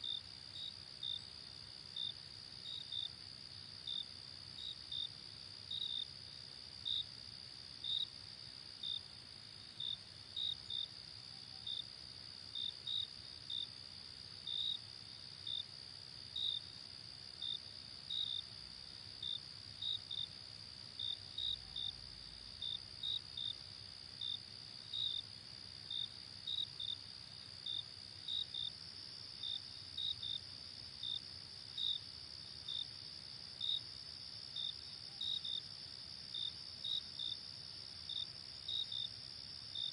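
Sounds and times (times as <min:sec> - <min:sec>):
insect chirps: 0:00.0 - 0:39.9.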